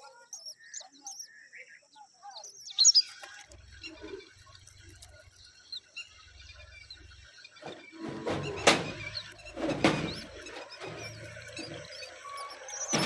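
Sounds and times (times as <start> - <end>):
myna birds chirping: 0.0 - 13.0.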